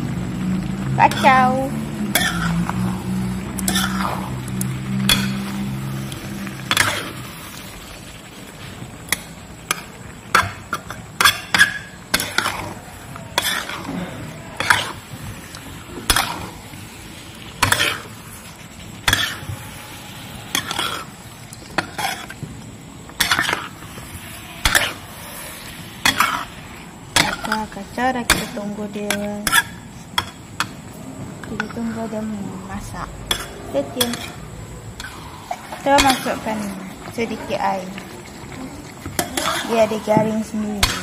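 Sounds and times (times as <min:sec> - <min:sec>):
low sizzle: 0:00.0 - 0:41.0
spatula scraping a metal wok: 0:01.0 - 0:22.4, 0:23.1 - 0:30.7, 0:33.2 - 0:41.0.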